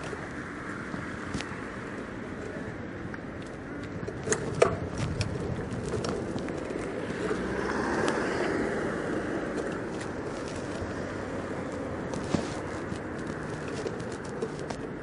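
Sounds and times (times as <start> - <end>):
bicycle rolling over pavement: 0.0 - 15.0.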